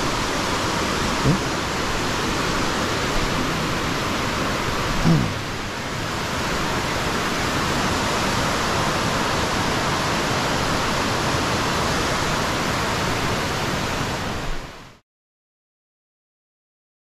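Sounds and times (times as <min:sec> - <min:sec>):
water over rapids: 0:00.0 - 0:15.0
waterfall rushing: 0:00.0 - 0:15.0.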